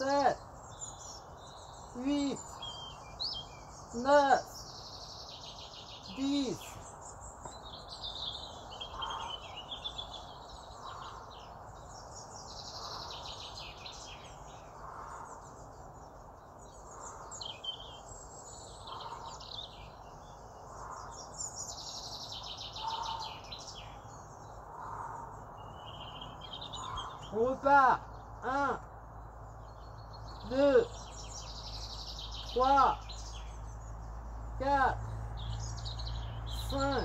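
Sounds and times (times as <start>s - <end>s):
birds singing and chirping: 0.0s - 37.0s.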